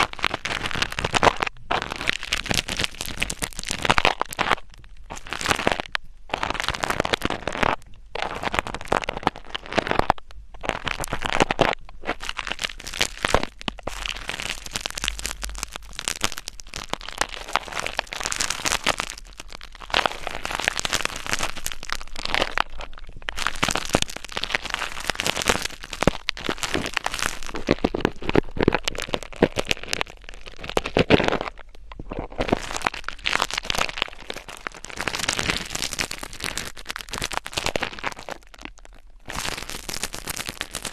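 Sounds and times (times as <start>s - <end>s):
scratching crackles at microphone: 0.0s - 40.9s.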